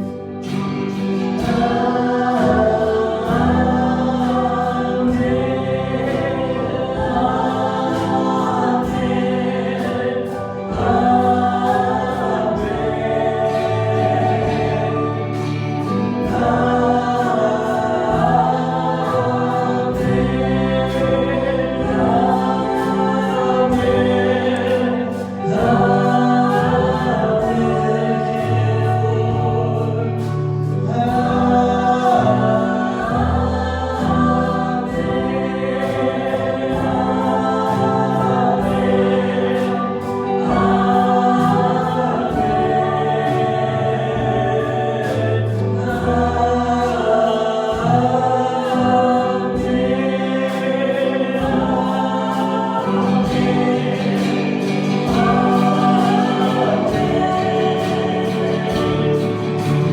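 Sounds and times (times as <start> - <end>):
choir singing a hymn: 0.0 - 59.9
regular percussive beat: 0.0 - 59.9.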